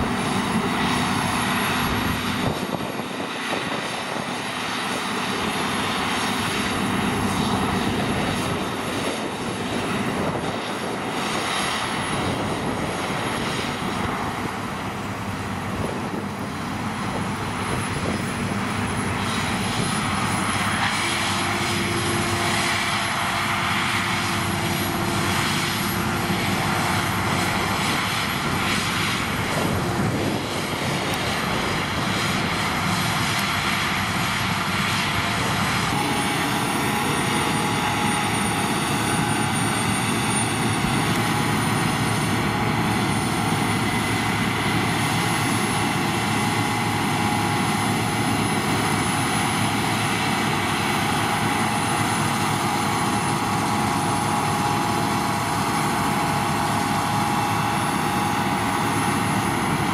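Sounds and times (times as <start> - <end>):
combine harvester running: 0.0 - 59.9
machine noise with high whine: 0.0 - 59.9.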